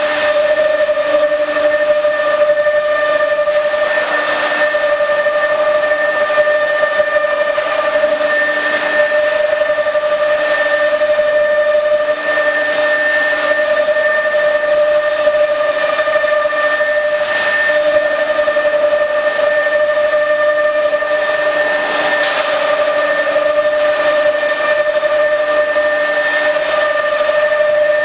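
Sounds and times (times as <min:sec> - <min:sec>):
cnc router spindle whine: 0:00.0 - 0:28.0
machine noise: 0:00.0 - 0:28.0.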